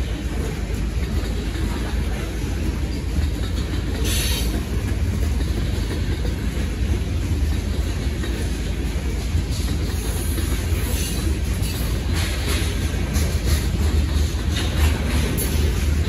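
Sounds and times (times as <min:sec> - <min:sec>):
freight train wheels rumbling on rail: 0:00.0 - 0:16.0.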